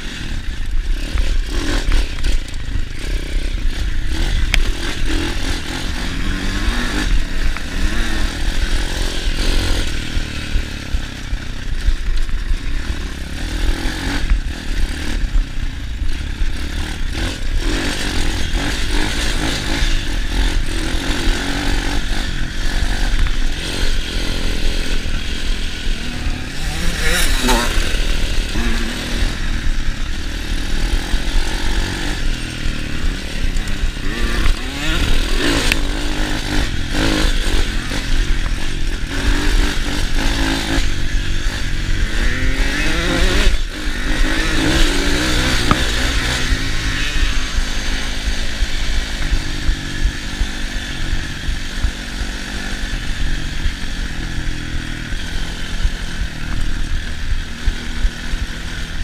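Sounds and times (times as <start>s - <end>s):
motorbike engine revving: 0.0s - 59.0s
rattling on rough trail: 0.0s - 59.0s.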